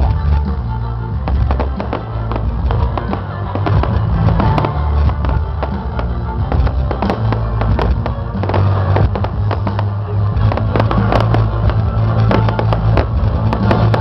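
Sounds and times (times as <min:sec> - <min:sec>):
fireworks cracking and popping: 0:00.0 - 0:14.0
music with heavy bass: 0:00.0 - 0:14.0.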